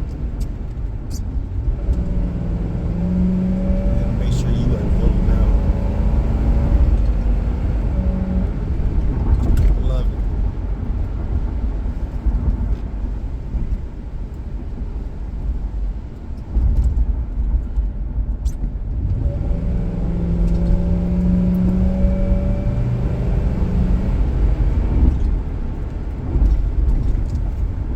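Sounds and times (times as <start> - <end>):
car engine and exhaust rumbling: 0.0 - 27.9.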